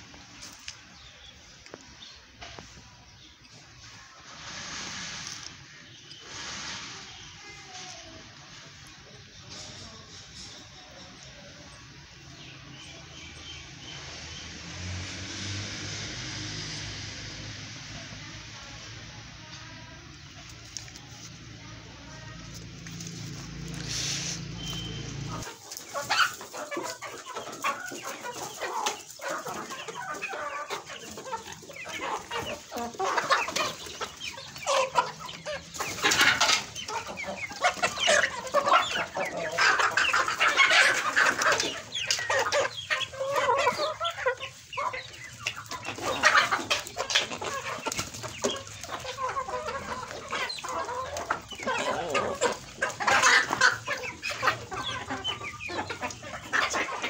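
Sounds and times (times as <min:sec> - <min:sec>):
chickens clucking and calling: 0:00.0 - 0:57.0.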